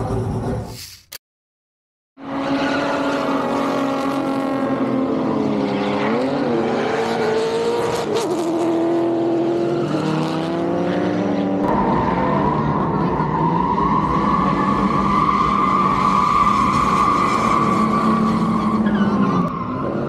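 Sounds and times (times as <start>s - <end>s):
drift car engines at high revs: 2.2s - 20.0s.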